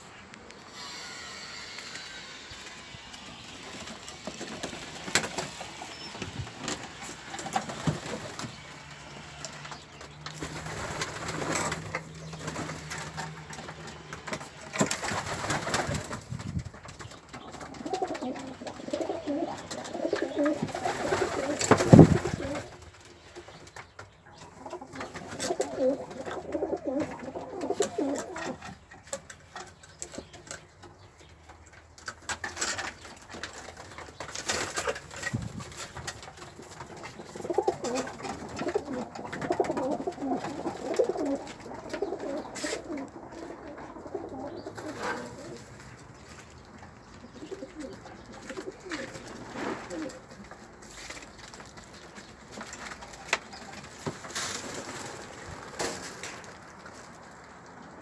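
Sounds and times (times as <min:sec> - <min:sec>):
pigeons cooing: 0:02.5 - 0:22.9, 0:24.3 - 0:28.9, 0:34.4 - 0:56.1.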